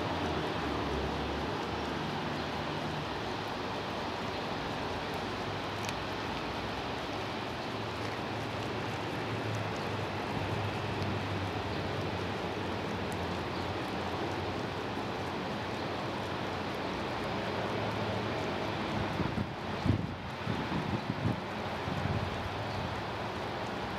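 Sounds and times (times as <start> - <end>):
faint ticks: 0.1 - 23.9.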